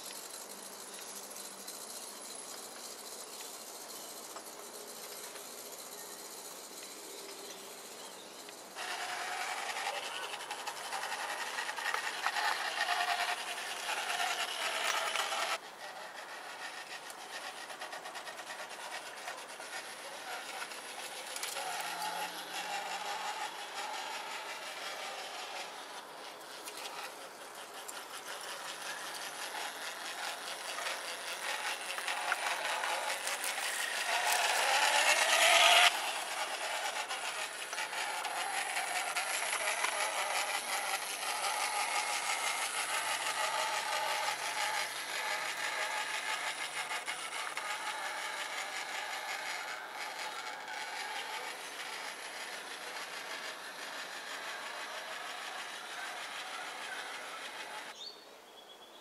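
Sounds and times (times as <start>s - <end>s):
model tram wheels grinding on rails: 0.0s - 58.0s.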